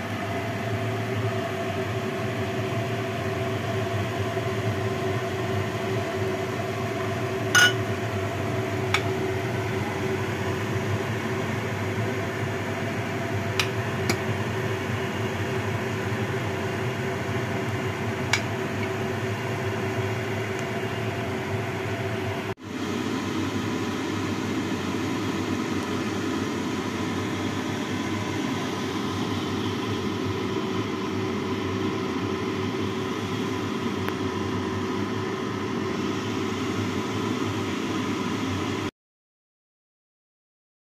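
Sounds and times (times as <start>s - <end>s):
kitchen fan hum: 0.0s - 38.9s
soup boiling in a pot: 0.0s - 38.9s.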